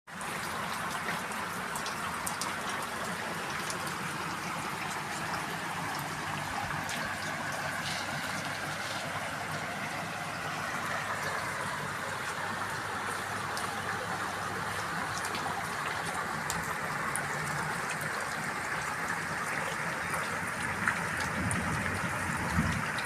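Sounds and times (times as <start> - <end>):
heavy rain falling: 0.1 - 23.0
rainwater flowing along road: 0.1 - 23.0.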